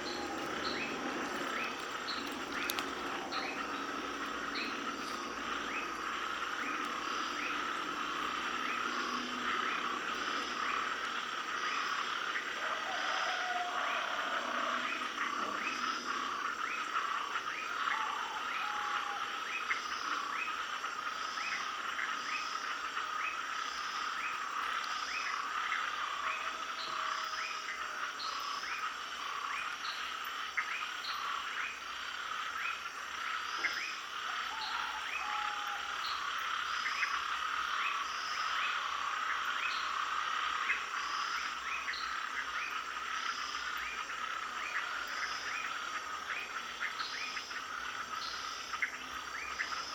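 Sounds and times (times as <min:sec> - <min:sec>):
frogs calling: 0:00.0 - 0:49.9.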